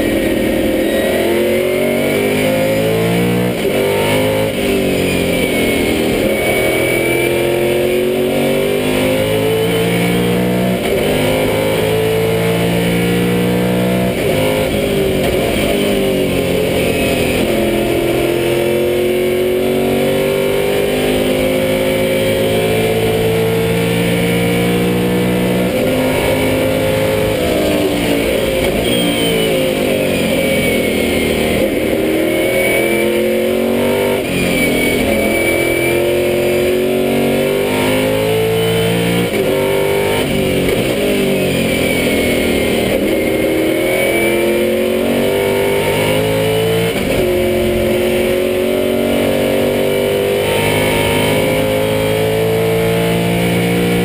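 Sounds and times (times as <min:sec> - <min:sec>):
racing car engine from cockpit: 0:00.0 - 0:54.0.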